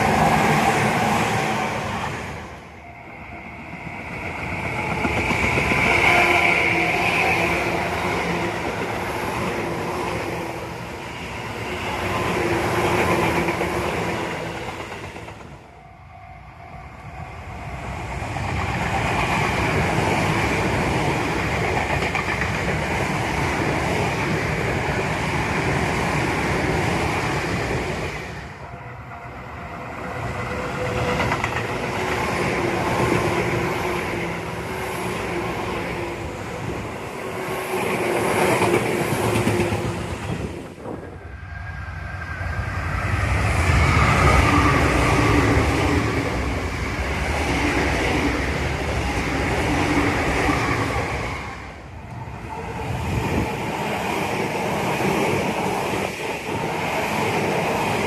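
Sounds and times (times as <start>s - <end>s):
electric trains passing: 0.0s - 58.0s.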